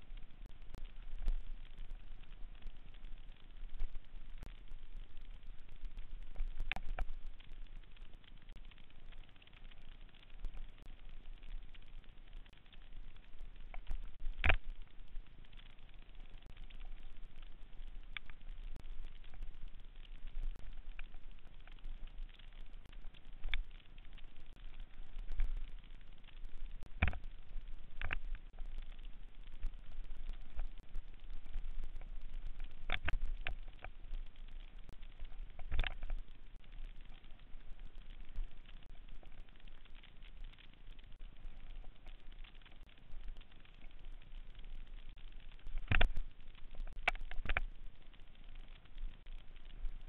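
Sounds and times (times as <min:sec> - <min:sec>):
bike tyres crackling on dirt trail: 0:00.0 - 0:50.0.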